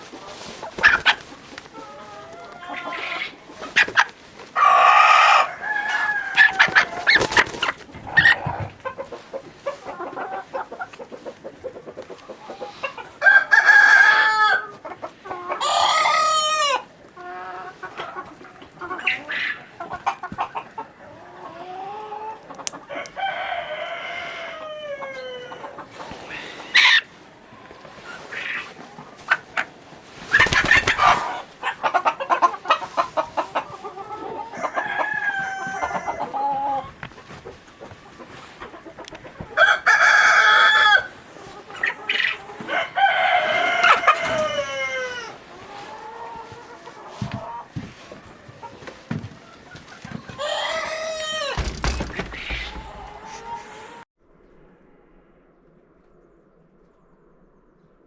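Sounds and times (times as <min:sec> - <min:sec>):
chickens clucking: 0:00.0 - 0:54.1
chickens drawn-out calls: 0:00.0 - 0:54.1.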